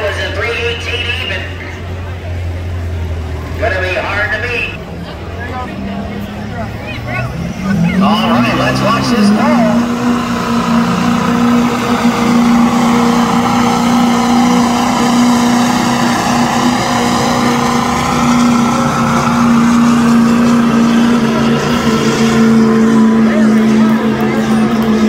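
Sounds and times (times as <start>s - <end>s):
diesel truck engine revving hard: 0.0s - 25.0s.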